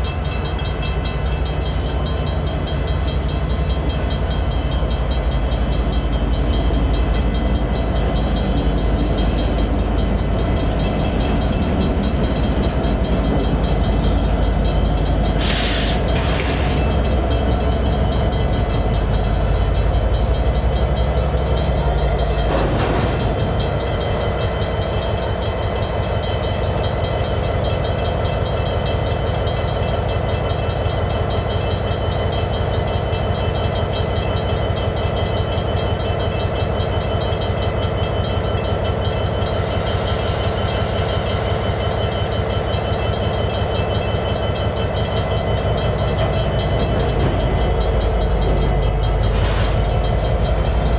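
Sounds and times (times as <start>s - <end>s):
crossing signal bell ringing: 0.0s - 50.9s
diesel locomotives running: 0.0s - 50.9s.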